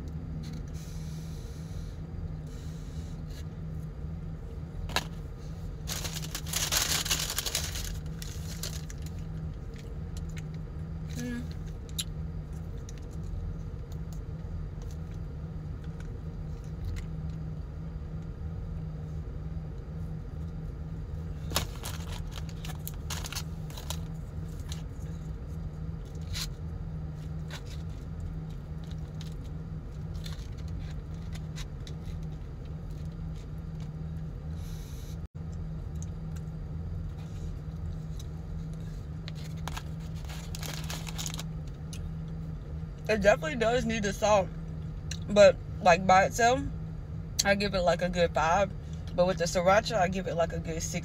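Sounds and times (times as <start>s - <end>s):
car interior hum: 0.0s - 51.0s.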